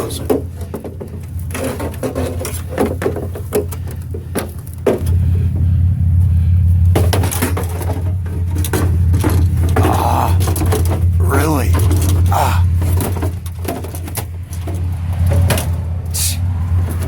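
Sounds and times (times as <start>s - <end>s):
scrap metal clattering: 0.0s - 16.2s
steady low hum: 0.0s - 17.0s.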